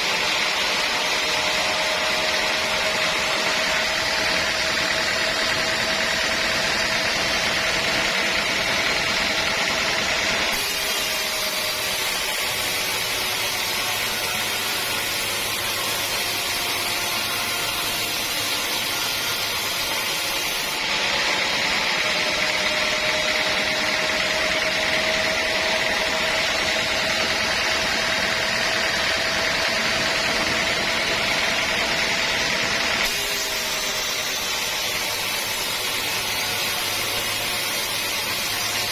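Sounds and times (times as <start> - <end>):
saw cutting logs: 0.0 - 38.9.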